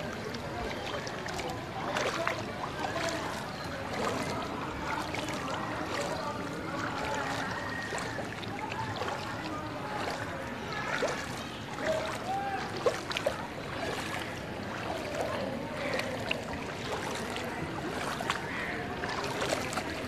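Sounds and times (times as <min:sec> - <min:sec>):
water sloshing around wading legs: 0:00.0 - 0:20.0
water splashes: 0:00.0 - 0:20.0.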